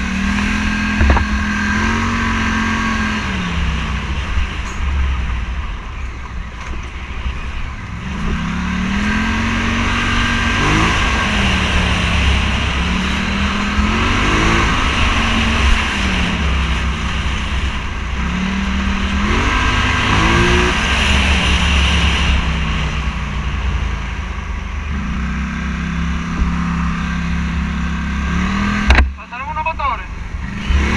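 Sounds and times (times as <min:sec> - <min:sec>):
wind rumble on microphone: 0:00.0 - 0:29.2
motorcycle engine revving: 0:00.0 - 0:30.9.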